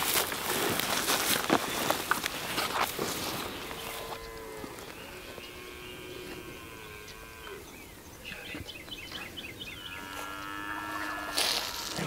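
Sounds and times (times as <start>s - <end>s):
birds chirping: 1.4s - 12.0s.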